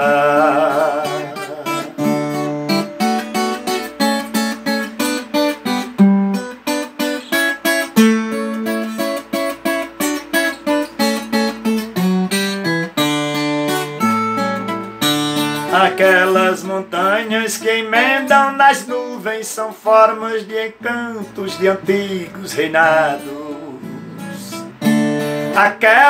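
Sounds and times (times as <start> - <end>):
acoustic guitar picked and strummed: 0.0 - 26.0.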